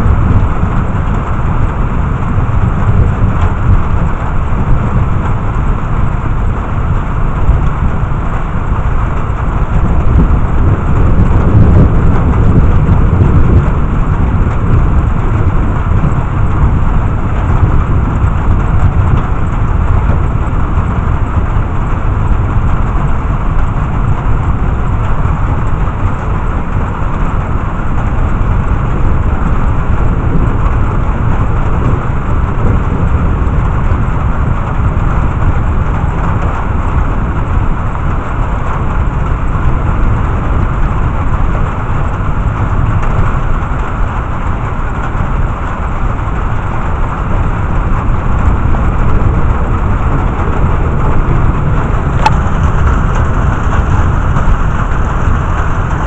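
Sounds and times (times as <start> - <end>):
low thunder rumble: 0.0 - 56.0
steady rain: 0.0 - 56.0.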